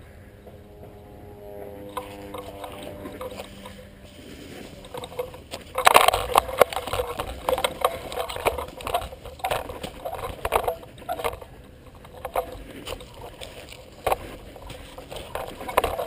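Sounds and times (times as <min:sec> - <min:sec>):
crawling over sand and leaves: 0:01.4 - 0:16.0.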